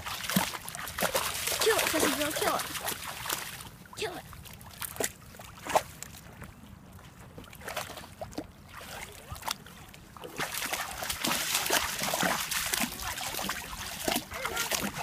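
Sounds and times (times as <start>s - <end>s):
puppy splashing in water: 0.0s - 6.4s, 7.2s - 15.0s.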